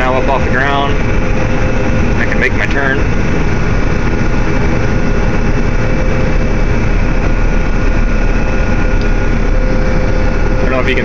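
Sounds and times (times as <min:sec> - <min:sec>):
combine engine drone: 0:00.0 - 0:11.0
steady machine whine: 0:00.0 - 0:11.0.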